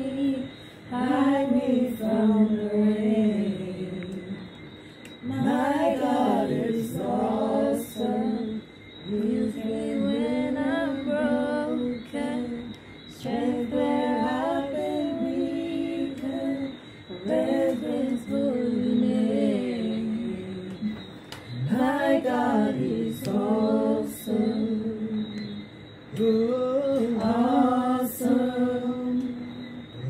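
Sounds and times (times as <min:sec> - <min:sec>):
woman singing unaccompanied: 0:00.0 - 0:04.6, 0:05.2 - 0:21.1, 0:21.7 - 0:29.9.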